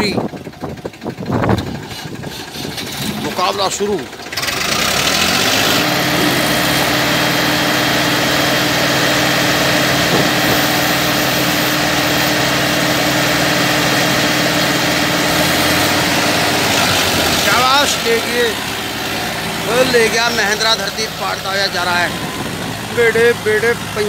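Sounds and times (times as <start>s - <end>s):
tractor engines under heavy load: 0.0s - 24.0s.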